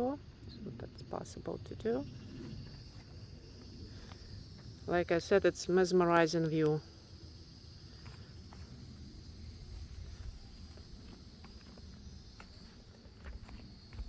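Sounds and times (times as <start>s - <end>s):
high-pitched insect drone: 1.4s - 14.0s.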